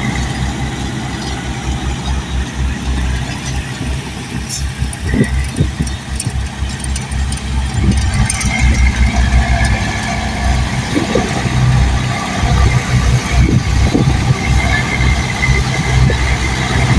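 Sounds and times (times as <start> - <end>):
bulldozer diesel engine: 0.0 - 16.9
steady high whine: 0.0 - 16.9.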